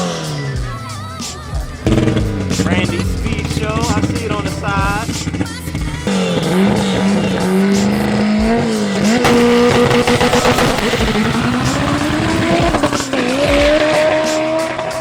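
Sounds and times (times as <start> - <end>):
racing car engine revving: 0.0 - 15.0
tires squealing: 0.0 - 15.0.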